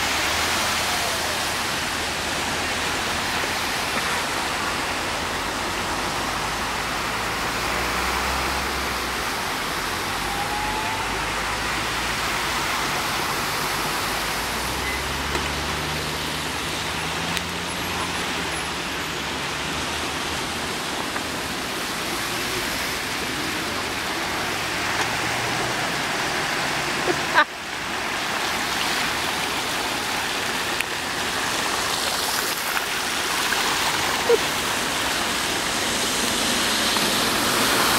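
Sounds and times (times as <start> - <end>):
floodwater rushing: 0.0 - 37.9.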